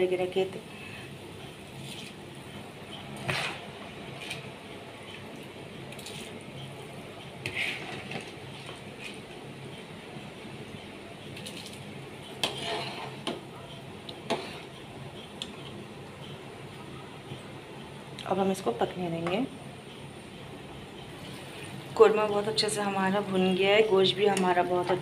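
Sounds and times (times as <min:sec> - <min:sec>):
water boiling in a pot: 0:00.0 - 0:25.0.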